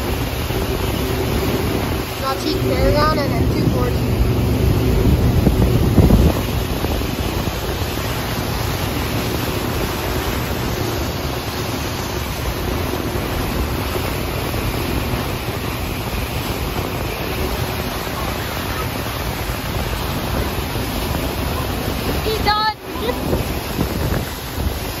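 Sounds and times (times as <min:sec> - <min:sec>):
churning wake water: 0:00.0 - 0:25.0
wind buffeting microphone: 0:00.0 - 0:25.0.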